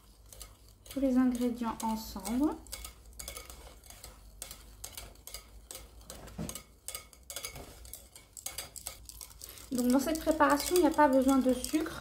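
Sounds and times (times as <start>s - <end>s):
whisk ticking against glass bowl: 0.0s - 12.0s.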